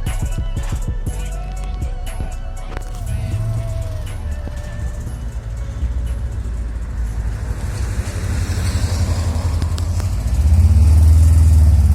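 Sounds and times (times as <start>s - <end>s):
engine exhaust rumble: 0.0s - 11.9s.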